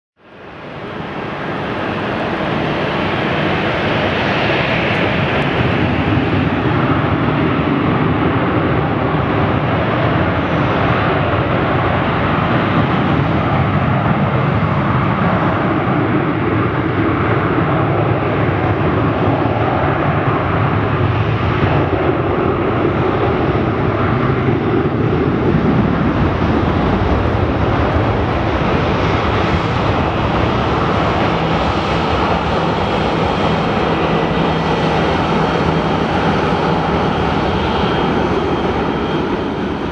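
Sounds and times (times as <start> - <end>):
jet airliner taking off: 0.3 - 39.9.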